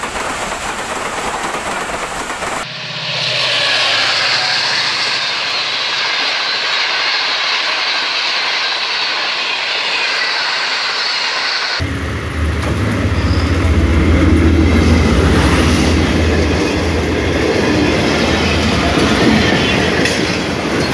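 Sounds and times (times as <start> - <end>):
train wheels on rails roaring: 0.0 - 20.9.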